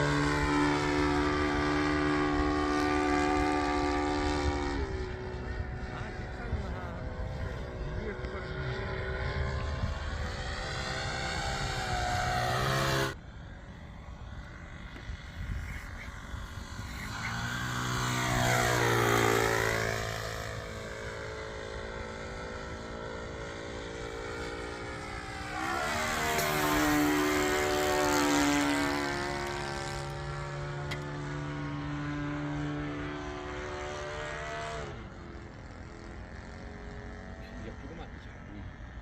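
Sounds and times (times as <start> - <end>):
model airplane motor droning: 0.0 - 39.0.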